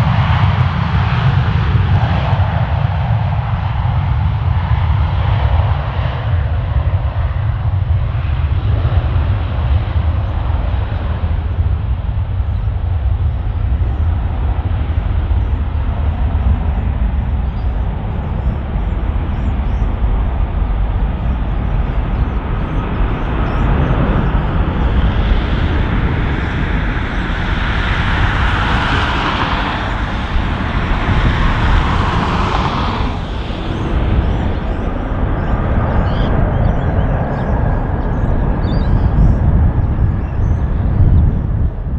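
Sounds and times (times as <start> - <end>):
jet engines at takeoff thrust: 0.0 - 41.9.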